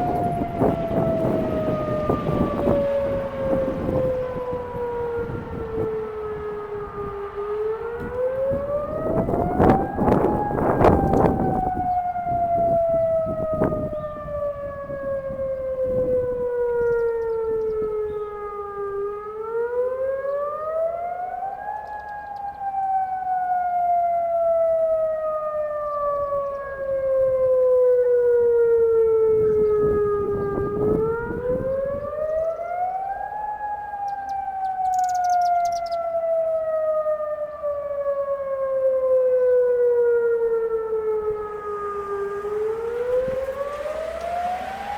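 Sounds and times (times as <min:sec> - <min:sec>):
warning siren wailing: 0:00.0 - 0:44.9.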